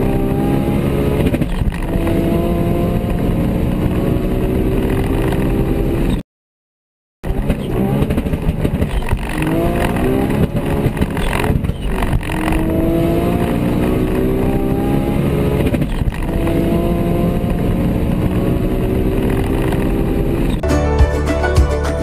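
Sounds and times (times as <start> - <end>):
car engines at full throttle: 0.0 - 6.2, 7.3 - 20.6.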